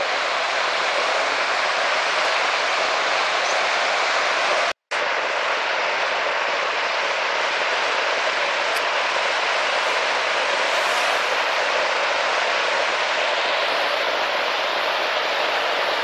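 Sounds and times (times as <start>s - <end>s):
waterfall pouring into pool: 0.0s - 16.0s.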